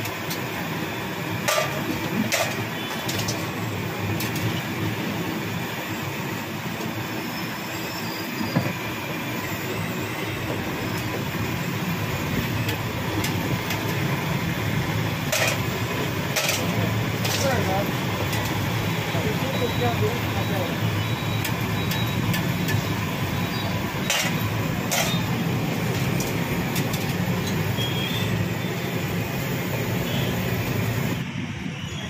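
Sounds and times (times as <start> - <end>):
oil sizzling: 0.0 - 31.2.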